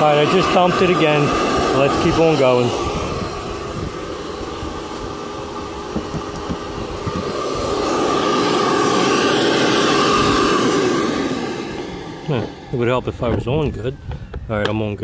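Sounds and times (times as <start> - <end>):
shop vac motor whining: 0.0 - 15.0.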